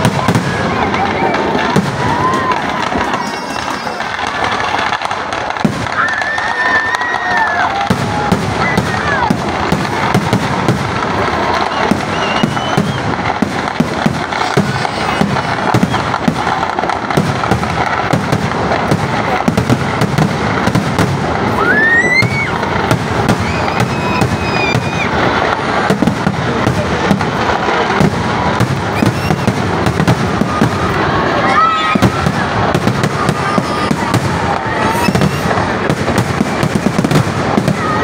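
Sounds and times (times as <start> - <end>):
fireworks cracking and banging: 0.0 - 38.0
rising firework whistle: 0.0 - 38.0.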